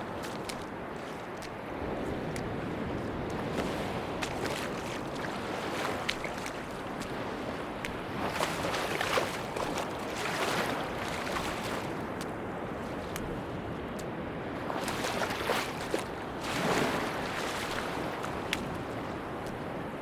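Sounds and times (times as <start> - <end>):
sea waves washing onto a beach: 0.0 - 20.0.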